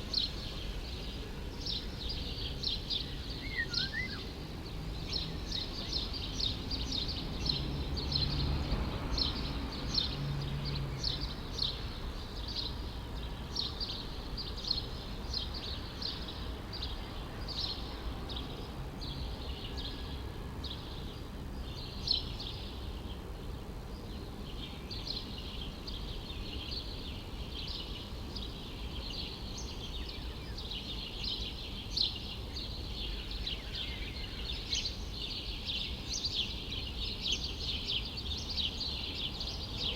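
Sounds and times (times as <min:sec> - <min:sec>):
distant city traffic hum: 0:00.0 - 0:39.9
small birds chirping: 0:00.0 - 0:39.9.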